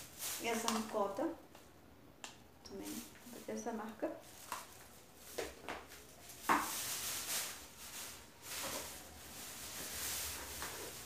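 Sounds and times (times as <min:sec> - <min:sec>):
plastic bag rustling: 0:00.0 - 0:01.3, 0:02.7 - 0:11.0.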